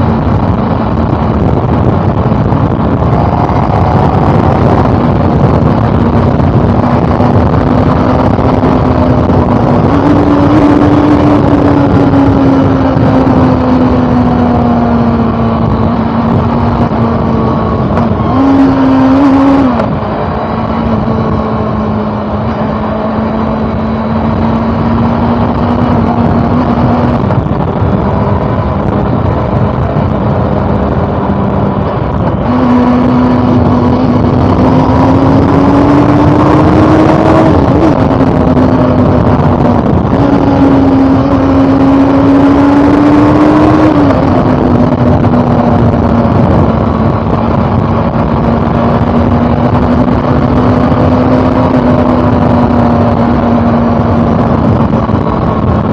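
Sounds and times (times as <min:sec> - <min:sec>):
motorcycle engine running: 0:00.0 - 0:55.9
steady rushing noise: 0:00.0 - 0:55.9.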